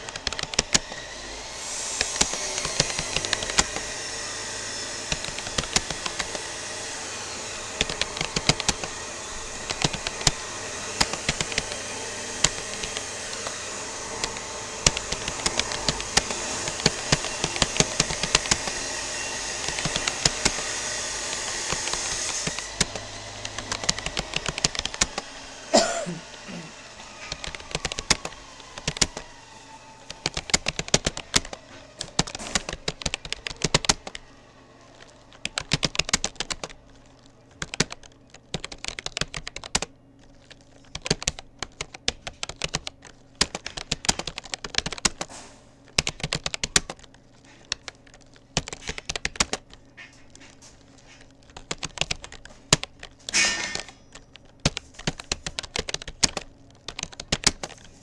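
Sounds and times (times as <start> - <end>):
keyboard keys clicking: 0.0 - 58.0.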